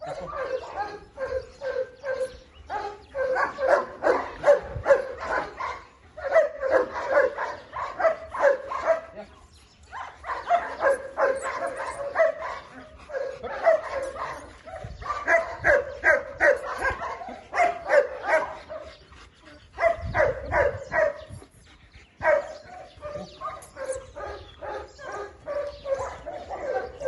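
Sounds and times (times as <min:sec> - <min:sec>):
dogs barking: 0:00.0 - 0:21.6, 0:22.2 - 0:27.0.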